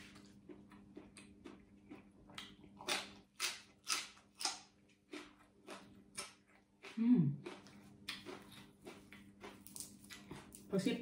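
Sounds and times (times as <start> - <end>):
crunching raw vegetable: 0.0 - 10.7.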